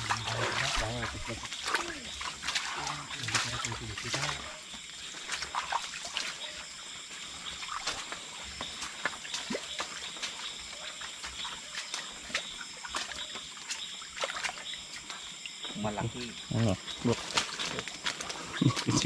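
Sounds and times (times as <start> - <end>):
small splashes and clicks: 0.0 - 15.8, 17.1 - 19.0
water sloshing and trickling: 0.0 - 19.0.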